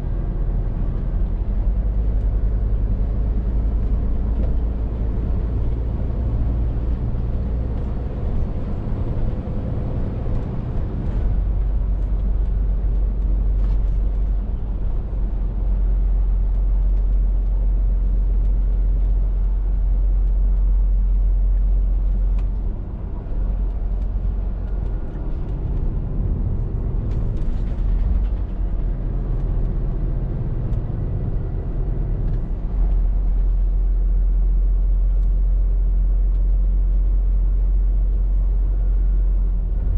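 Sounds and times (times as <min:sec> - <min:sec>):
lorry diesel engine running: 0:00.0 - 0:39.9
road noise: 0:00.0 - 0:39.9.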